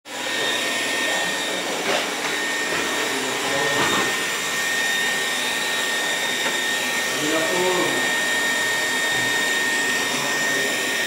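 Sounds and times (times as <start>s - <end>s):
robot vacuum fan noise: 0.1s - 11.0s.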